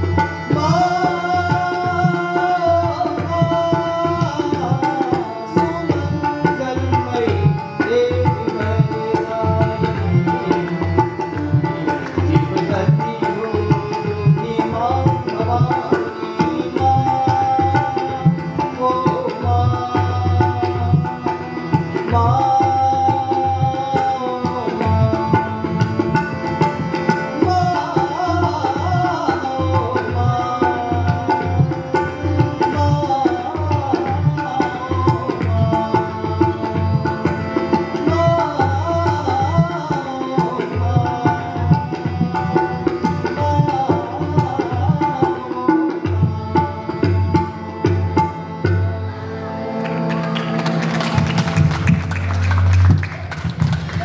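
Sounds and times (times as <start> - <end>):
harmonium melody: 0.0 - 54.0
tabla playing steady rhythm: 0.0 - 54.0.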